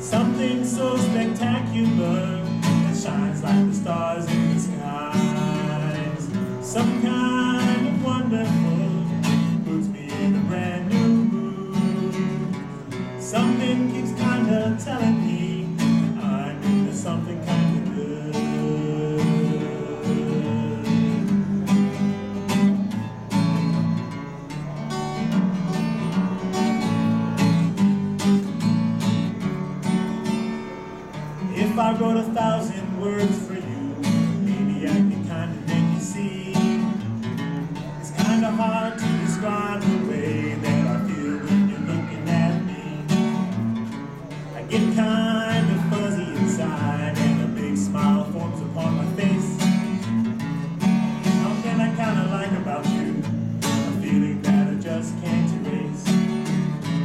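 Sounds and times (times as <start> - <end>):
man singing: 0.0 - 22.7, 31.4 - 57.0
acoustic guitar strumming: 0.0 - 57.0.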